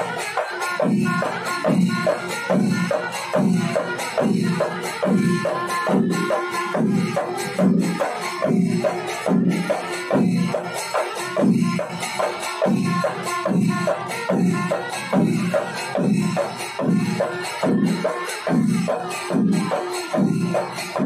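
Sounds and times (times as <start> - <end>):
steady drumbeat: 0.0 - 21.0.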